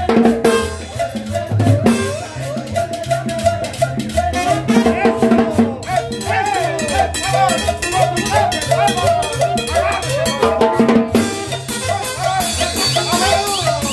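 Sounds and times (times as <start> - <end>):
live dance band playing: 0.0 - 13.9.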